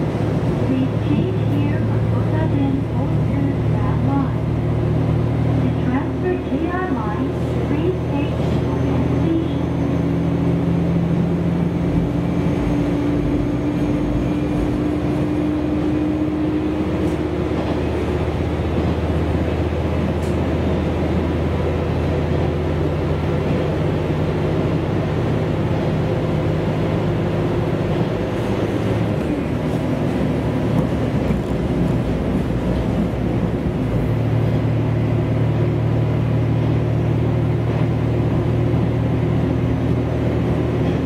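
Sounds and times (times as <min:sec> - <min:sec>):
railcar engine drone: 0:00.0 - 0:41.0
wheel-on-rail rumble: 0:00.0 - 0:41.0.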